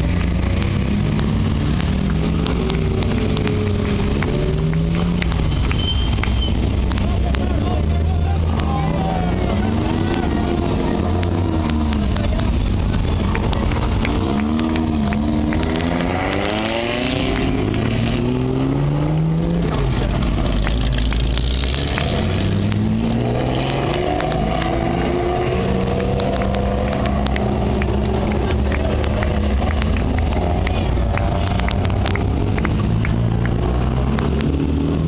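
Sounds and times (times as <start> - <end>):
racing cars passing: 0.0 - 35.0.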